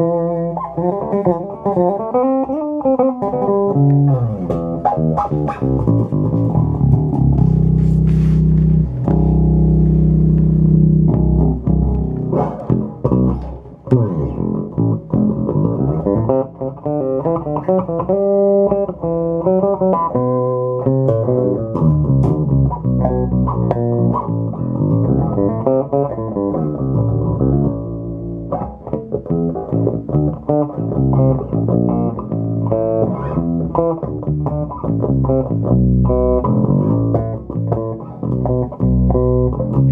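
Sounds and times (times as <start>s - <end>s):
electric bass playing: 0.0s - 39.9s.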